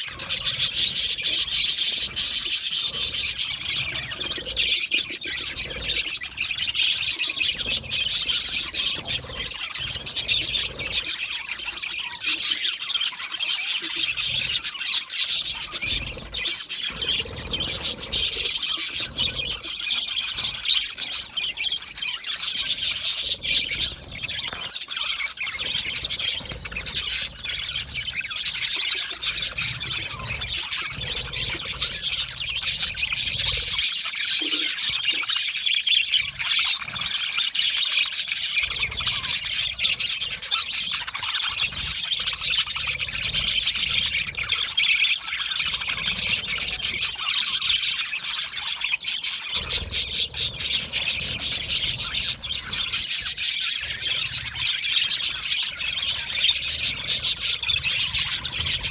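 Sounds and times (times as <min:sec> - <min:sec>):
budgerigars chirping and chattering: 0:00.0 - 0:58.9.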